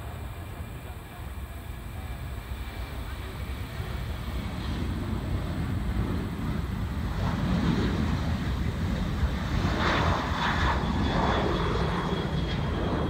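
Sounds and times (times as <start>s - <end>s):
faint high whine: 0.0s - 13.0s
jet engines rumbling at takeoff: 0.0s - 13.0s.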